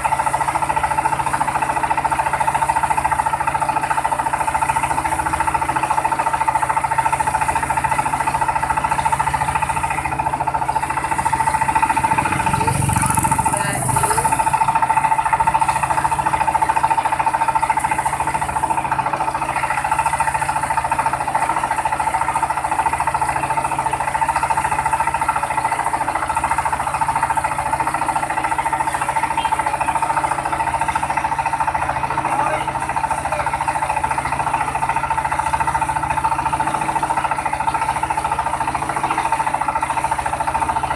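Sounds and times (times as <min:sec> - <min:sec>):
rice mill machinery droning: 0:00.0 - 0:40.9.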